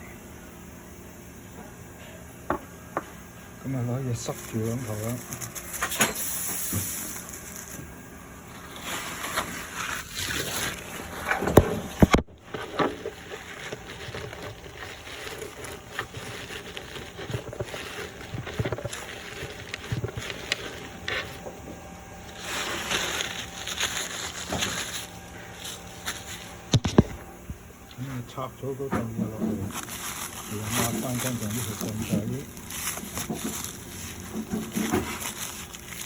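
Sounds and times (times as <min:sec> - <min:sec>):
rubbing and rustling: 0:04.2 - 0:07.9, 0:08.5 - 0:27.2, 0:29.0 - 0:36.0.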